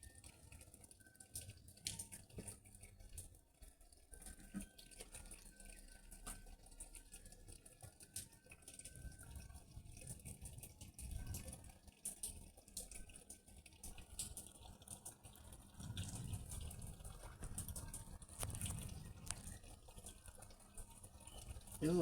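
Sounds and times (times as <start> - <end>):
drops dripping: 0.0 - 22.0
faint rain falling: 0.0 - 22.0.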